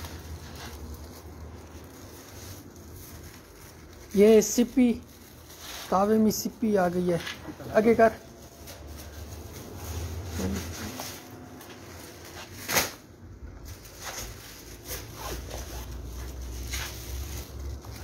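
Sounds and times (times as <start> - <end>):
paper kites rustling and crinkling: 0.0 - 18.0.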